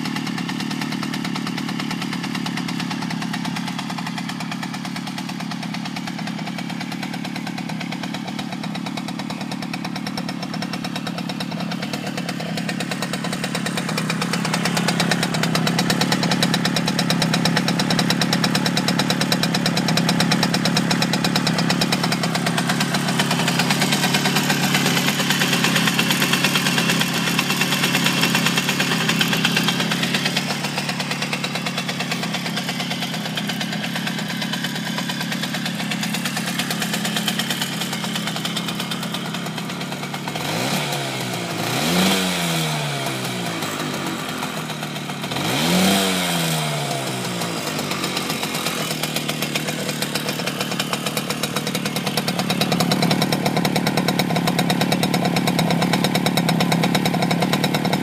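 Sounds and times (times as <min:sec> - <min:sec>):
moped engine idling: 0:00.0 - 0:58.0.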